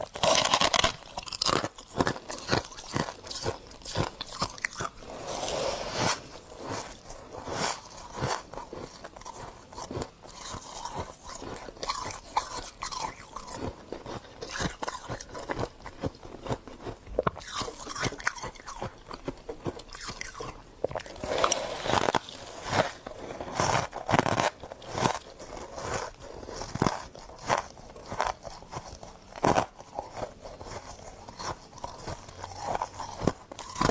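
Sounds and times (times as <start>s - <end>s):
crunching frost being chewed: 0.0s - 33.9s.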